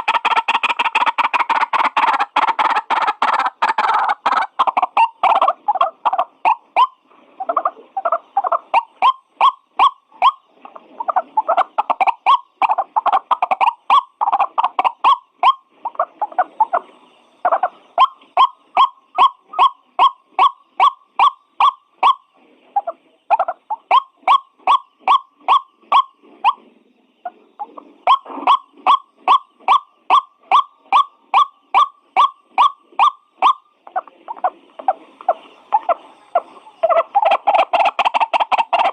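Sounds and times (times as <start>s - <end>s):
bird calling sharp notes: 0.0s - 26.6s, 27.2s - 38.9s.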